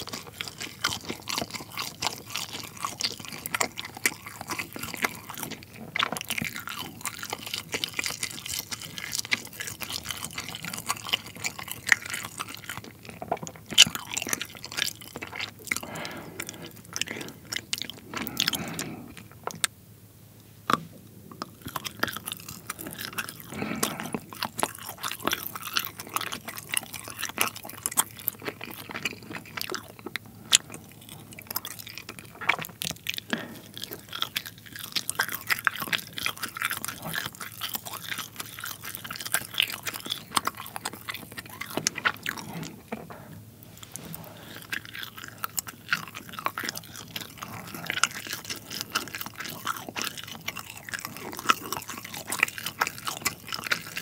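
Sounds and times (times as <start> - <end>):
chewing cheese: 0.0 - 19.8, 20.6 - 54.0.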